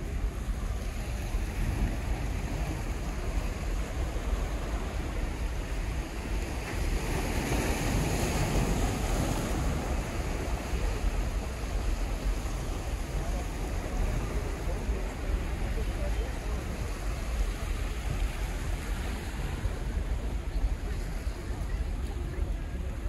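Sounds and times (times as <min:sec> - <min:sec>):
waves breaking over rocks: 0:00.0 - 0:23.0
wind rumbling on microphone: 0:00.0 - 0:23.0.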